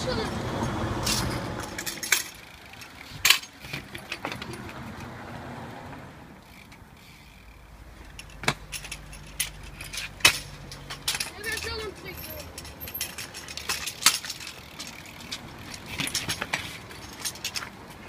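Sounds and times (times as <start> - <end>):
scooters clacking on paving stones: 0.0 - 5.3, 6.4 - 18.0.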